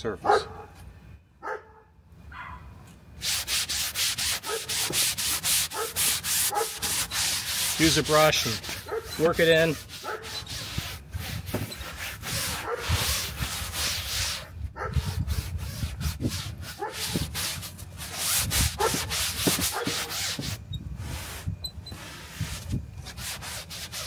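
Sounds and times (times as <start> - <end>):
brush scrubbing wet seat cushion: 3.2 - 24.0.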